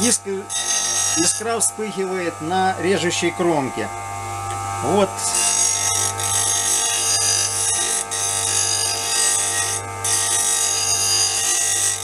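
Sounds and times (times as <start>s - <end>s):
bench grinder motor hum: 0.0s - 12.0s.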